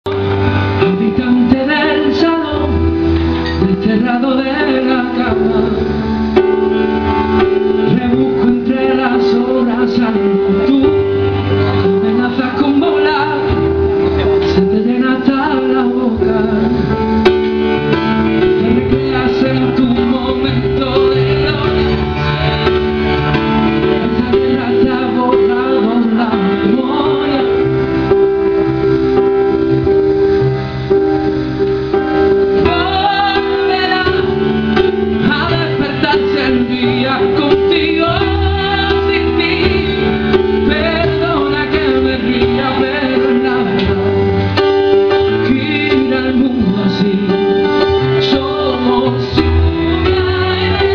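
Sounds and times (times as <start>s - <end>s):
man singing pop ballad: 0.0s - 28.8s, 32.3s - 50.9s
piano accompaniment: 0.0s - 50.9s.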